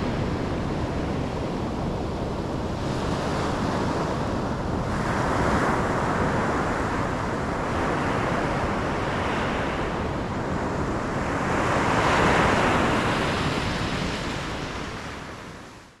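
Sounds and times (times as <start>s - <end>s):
ocean waves washing onto shore: 0.0s - 15.9s.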